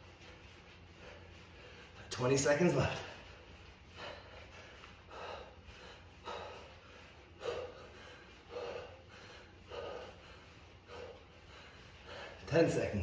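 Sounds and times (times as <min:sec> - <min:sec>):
man breathing hard: 0:00.0 - 0:13.0.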